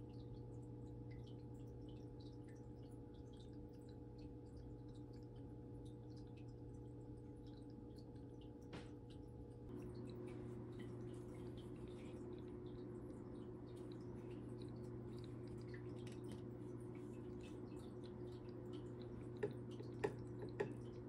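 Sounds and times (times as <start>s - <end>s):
aquarium filter pump hum: 0.0s - 21.0s
water drips and ticks: 0.0s - 21.0s.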